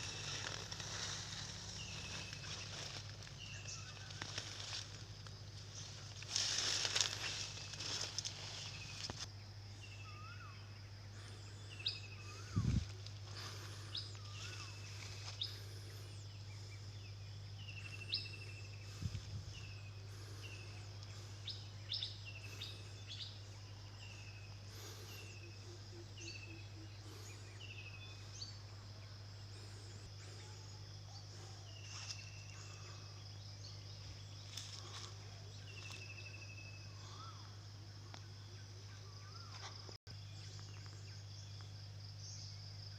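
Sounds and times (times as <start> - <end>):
high insect drone: 0.0 - 42.9
low steady hum: 0.0 - 42.9.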